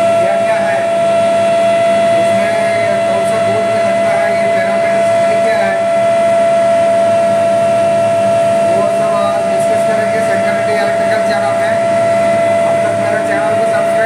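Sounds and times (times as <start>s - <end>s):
furnace high-pitched whine: 0.0s - 14.0s.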